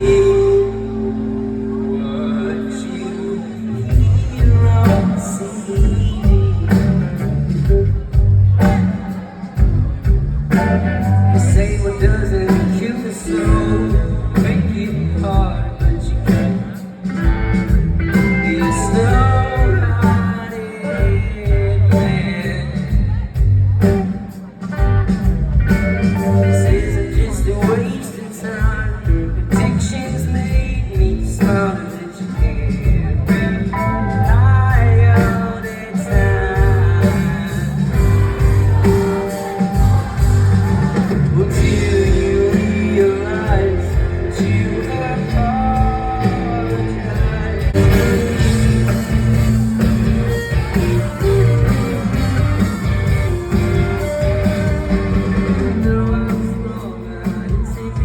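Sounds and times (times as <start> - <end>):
lead singer singing: 0.0 - 58.0
live rock band: 0.0 - 58.0.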